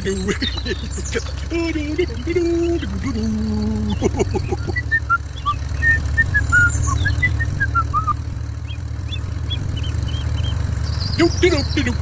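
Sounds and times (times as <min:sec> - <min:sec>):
small birds chirping: 0:00.0 - 0:12.0
tractor engine rumbling: 0:00.0 - 0:12.0.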